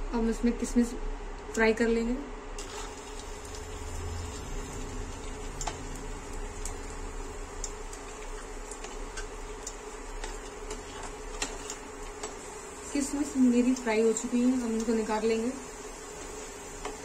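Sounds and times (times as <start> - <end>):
faint hum: 0.0 - 17.0
raisins sizzling in oil: 2.5 - 17.0.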